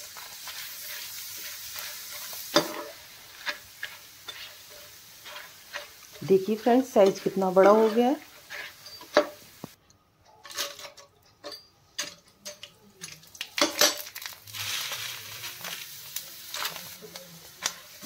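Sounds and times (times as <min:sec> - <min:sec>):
oil sizzling: 0:00.0 - 0:09.8, 0:12.5 - 0:18.0.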